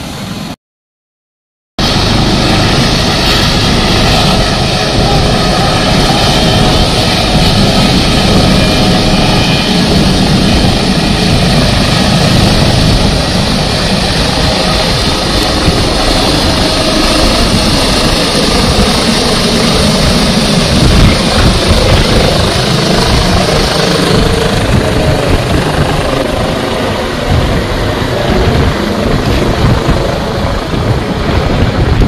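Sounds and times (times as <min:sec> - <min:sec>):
helicopter rotor beat: 0:01.8 - 0:32.0
helicopter turbine hiss: 0:01.8 - 0:32.0.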